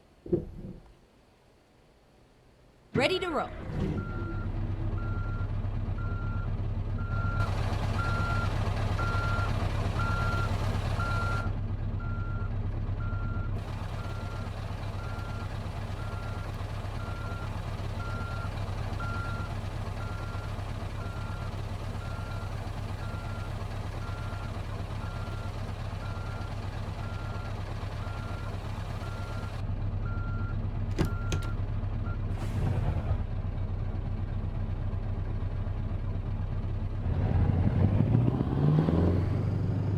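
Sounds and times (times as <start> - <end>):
truck engine running: 3.0 - 39.9.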